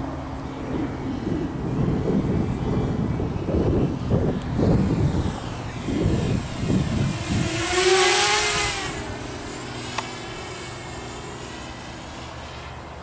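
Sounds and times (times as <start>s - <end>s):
wind buffeting microphone: 0.0s - 12.2s
drone propellers whining: 0.0s - 13.0s.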